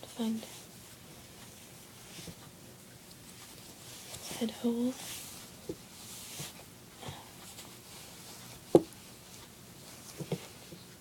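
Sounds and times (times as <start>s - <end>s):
soft handling of plush toy: 0.1s - 11.0s.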